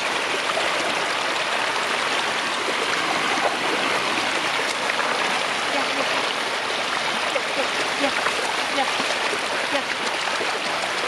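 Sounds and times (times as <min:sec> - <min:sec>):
floodwater rushing: 0:00.0 - 0:11.0
small water splashes: 0:00.0 - 0:11.0.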